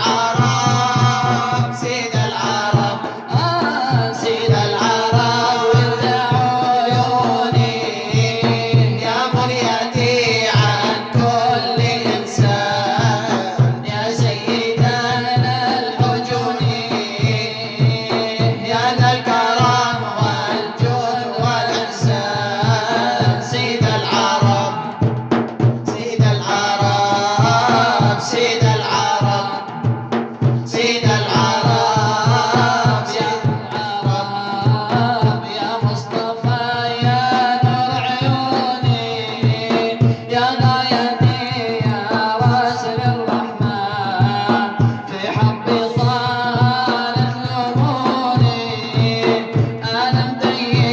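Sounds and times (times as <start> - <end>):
fast hand drum beat: 0.0 - 50.9
men singing: 0.0 - 50.9.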